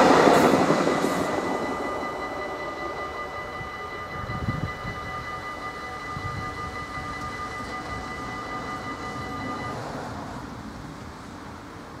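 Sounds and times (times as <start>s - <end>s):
level crossing bell ringing: 0.0s - 10.0s.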